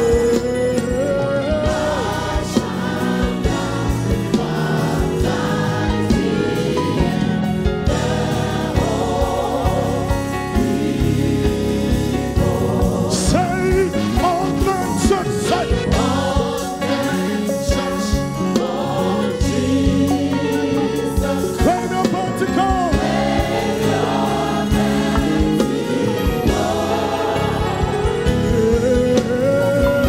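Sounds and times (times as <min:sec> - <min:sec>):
choir singing a hymn: 0:00.0 - 0:30.0
lead singer on microphone: 0:00.0 - 0:30.0.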